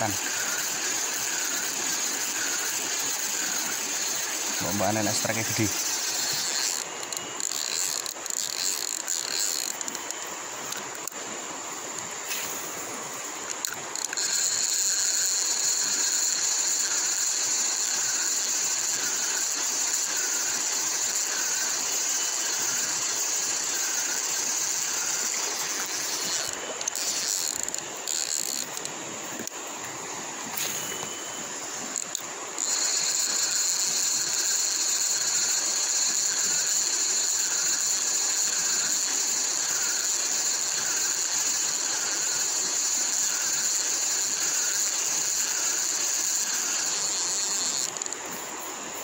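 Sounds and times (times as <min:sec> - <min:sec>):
fishing reel rattling: 0:00.0 - 0:11.2, 0:13.4 - 0:29.5, 0:30.5 - 0:48.5
high-pitched hiss: 0:00.0 - 0:49.0.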